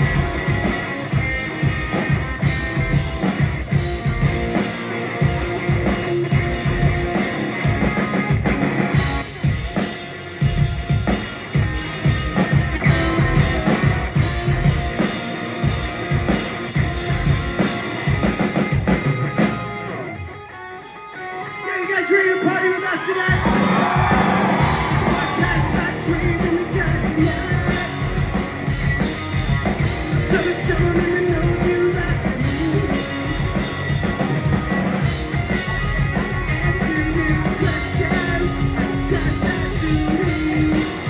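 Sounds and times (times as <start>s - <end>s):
pounding drum kit: 0.0s - 20.6s, 21.5s - 41.0s
electric guitars: 0.0s - 41.0s.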